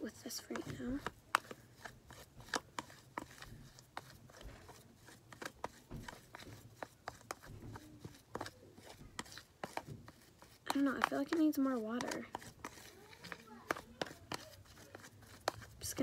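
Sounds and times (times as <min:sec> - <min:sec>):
spoon stirring in plastic tub: 0:00.0 - 0:16.0.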